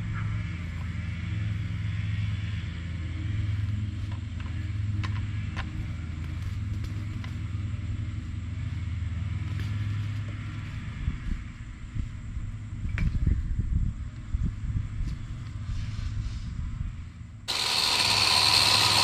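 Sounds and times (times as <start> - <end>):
low motor hum: 0.0 - 15.7, 16.5 - 19.0.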